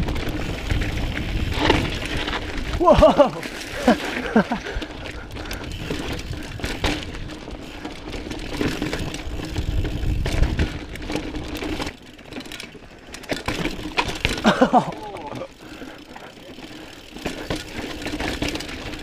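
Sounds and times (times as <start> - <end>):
bike tyres rumbling over rock: 0.0 - 19.0.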